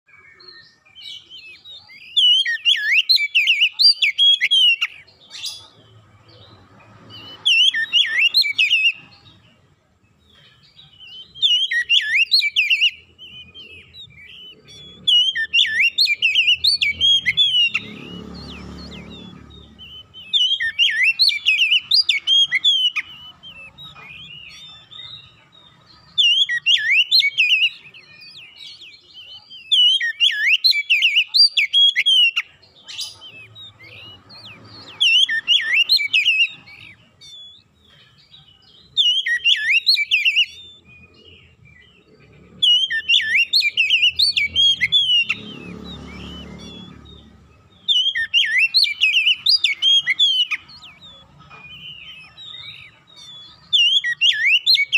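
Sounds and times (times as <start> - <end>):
bird singing warbling song: 0.0 - 54.9.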